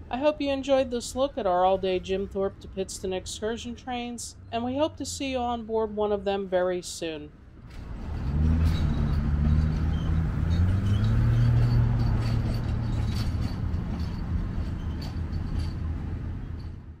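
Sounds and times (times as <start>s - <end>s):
railcar diesel engine running: 0.0s - 17.0s.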